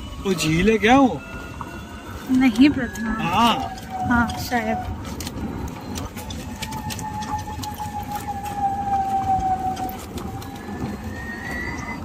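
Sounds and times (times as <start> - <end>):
higher faint whine: 0.0 - 12.0
low rumbling road noise: 0.0 - 12.0
vehicle engine whine: 0.0 - 12.0.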